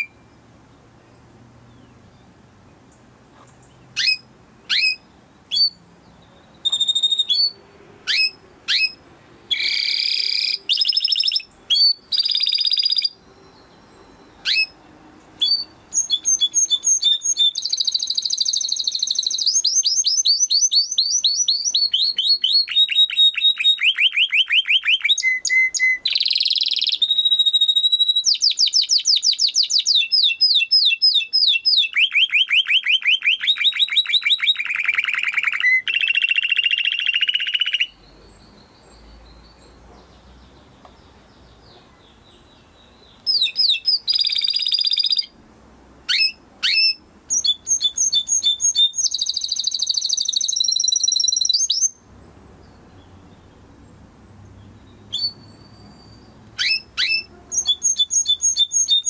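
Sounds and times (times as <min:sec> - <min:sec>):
canary singing trills: 0:00.0 - 0:45.4, 0:46.1 - 0:59.0.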